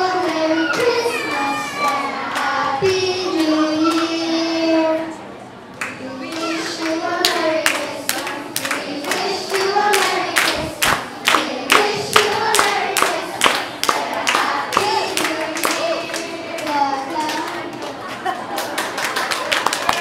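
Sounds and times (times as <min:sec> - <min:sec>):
rhythmic hand-clapping: 0:00.0 - 0:04.3, 0:05.8 - 0:20.0
children singing: 0:00.0 - 0:05.2, 0:06.0 - 0:17.7.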